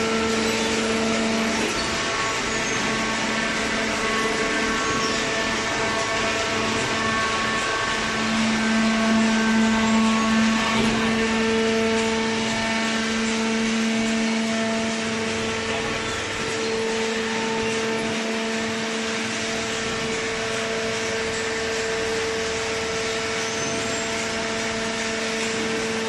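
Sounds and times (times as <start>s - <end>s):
machine drone: 0.0s - 26.0s.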